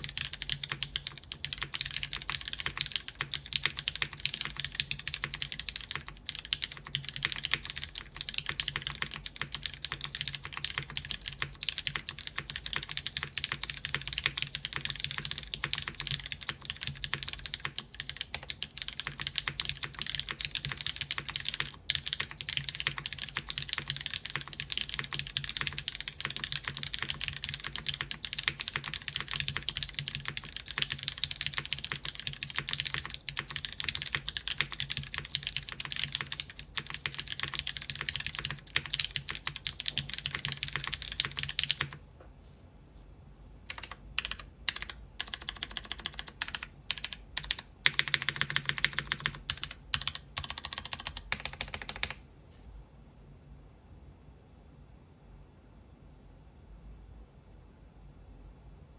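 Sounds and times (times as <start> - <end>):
fast typing on mechanical keyboard: 0.0 - 42.0, 43.7 - 52.2.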